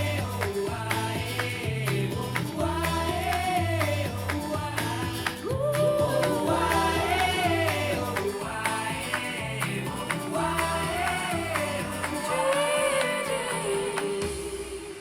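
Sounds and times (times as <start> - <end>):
pop song through computer speakers: 0.0 - 15.0.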